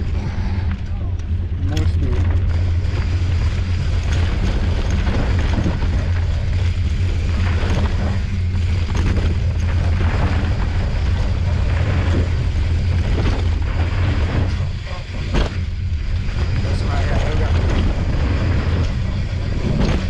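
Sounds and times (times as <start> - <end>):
bike knocks and rattles: 1.6 - 20.0.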